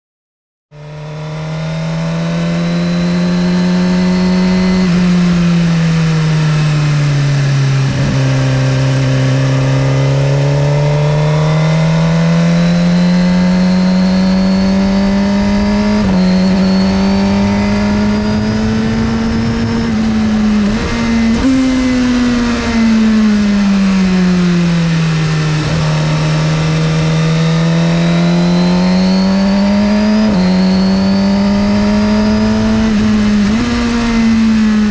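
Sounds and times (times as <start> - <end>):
motorcycle engine revving: 0.8 - 34.9.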